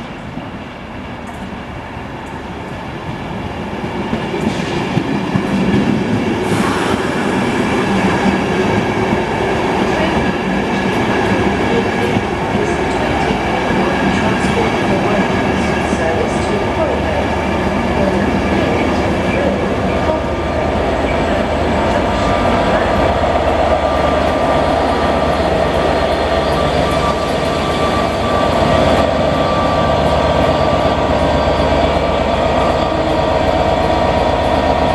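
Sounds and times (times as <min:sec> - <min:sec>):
train rumble: 0:00.0 - 0:34.9.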